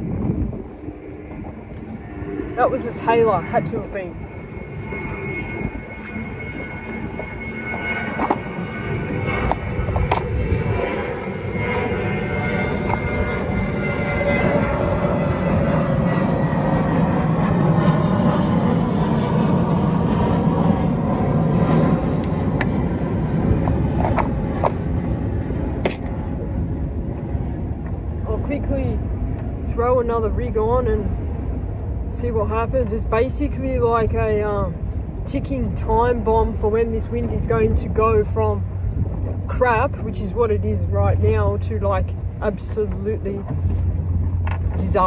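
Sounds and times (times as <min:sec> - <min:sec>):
engine drone: 0:00.0 - 0:45.0
wind rumble on microphone: 0:00.0 - 0:45.0.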